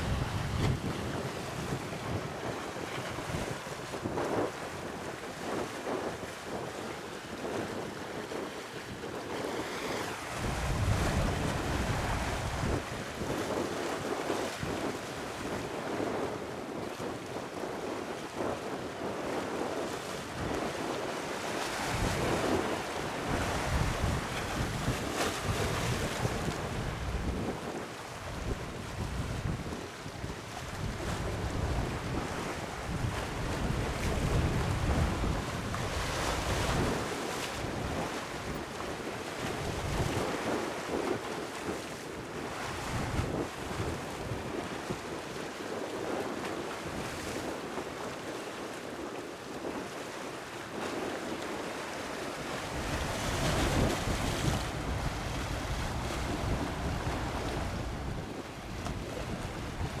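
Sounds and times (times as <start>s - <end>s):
wind buffeting microphone: 0.0s - 41.8s, 42.4s - 47.8s, 52.5s - 60.0s.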